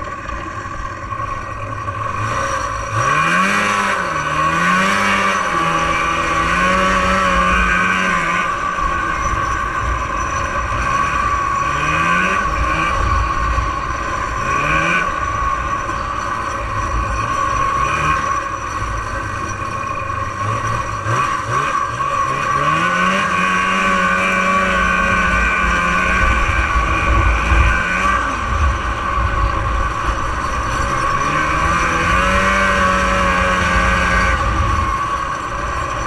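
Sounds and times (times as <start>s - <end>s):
snowmobile engine revving: 0.0s - 36.0s
steady high whine: 0.0s - 36.0s.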